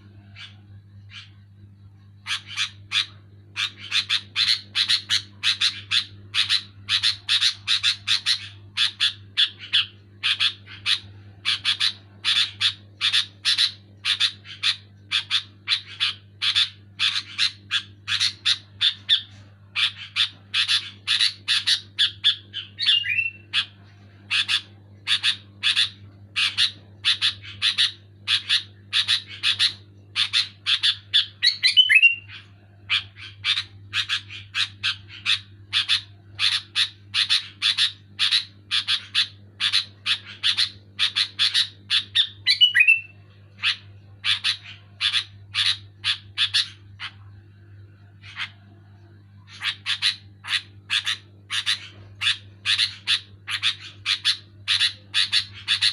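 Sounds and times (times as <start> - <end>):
steady low hum: 0.0 - 55.9
bird chattering: 0.2 - 1.5, 2.2 - 47.4, 48.0 - 48.8, 49.4 - 55.9.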